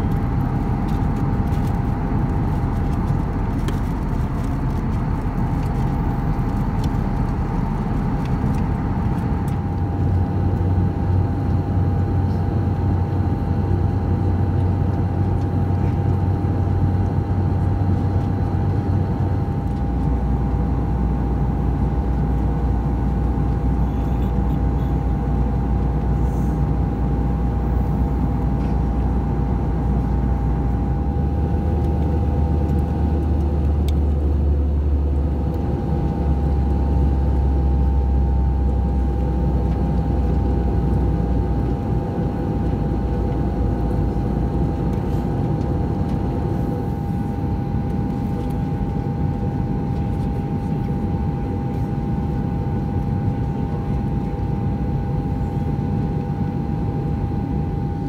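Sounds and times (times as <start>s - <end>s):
jet engine and airflow drone: 0.0s - 58.0s
low hum: 0.0s - 58.0s
steady whine: 0.0s - 58.0s.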